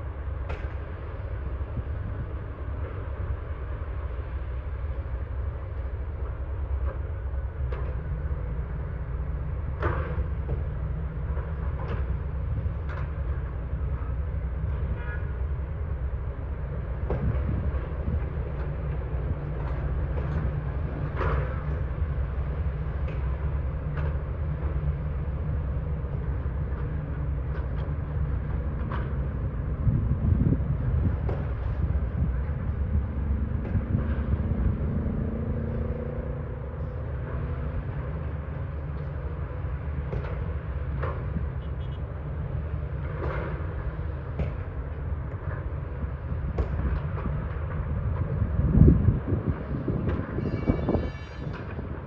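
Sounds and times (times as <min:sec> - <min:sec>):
diesel machinery rumbling: 0:00.0 - 0:52.0.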